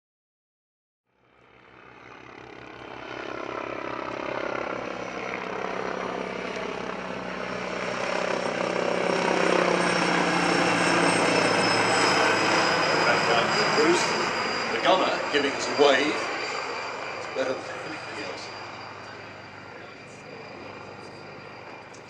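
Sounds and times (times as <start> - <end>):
helicopter rotor beat: 1.2 - 22.0
high turbine engine whine: 1.2 - 22.0.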